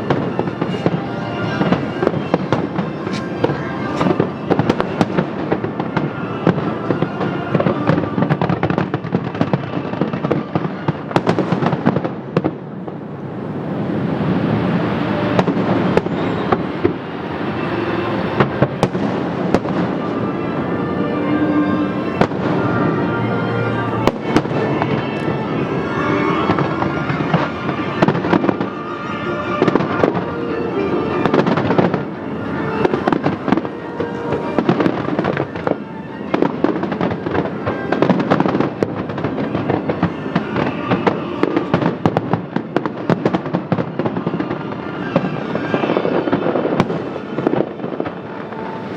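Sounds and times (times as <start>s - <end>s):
music playing: 0.0s - 9.0s, 13.8s - 48.9s
fireworks bangs: 0.0s - 48.9s.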